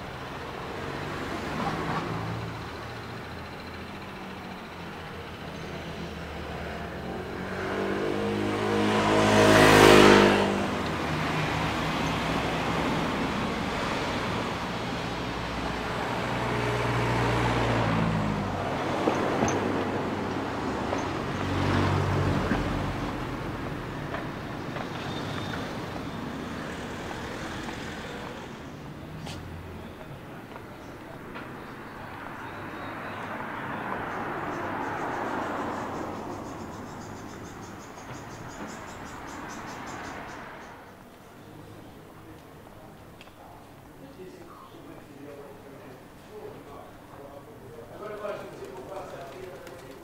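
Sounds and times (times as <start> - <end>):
vehicles driving past: 0.0 - 50.0.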